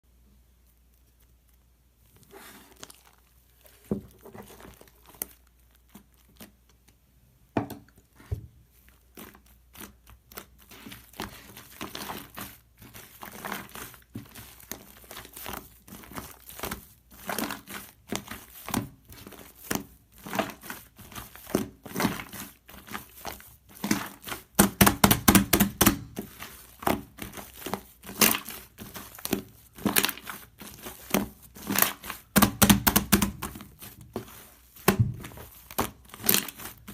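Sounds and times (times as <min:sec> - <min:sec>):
crinkling and crackling: 0:00.3 - 0:24.8, 0:25.4 - 0:36.9.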